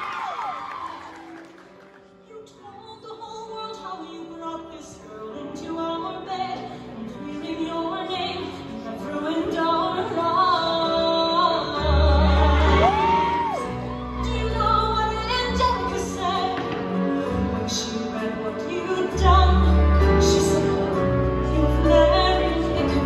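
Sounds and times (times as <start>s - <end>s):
woman singing operatically: 2.3s - 23.0s.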